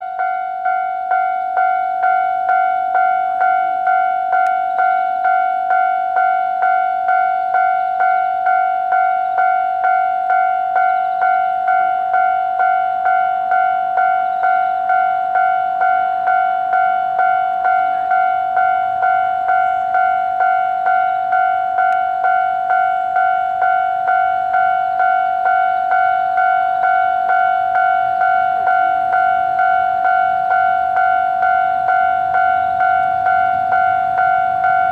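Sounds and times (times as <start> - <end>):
level-crossing alarm bell ringing: 0.0 - 34.9.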